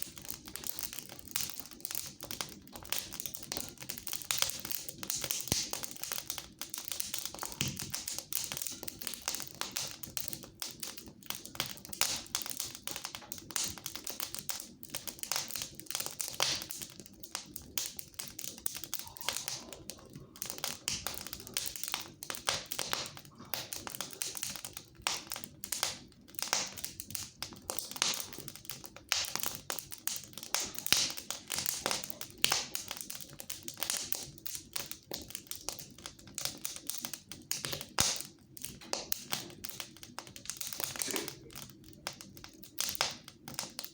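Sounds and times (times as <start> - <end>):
fire crackling in a fireplace: 0.0 - 43.9.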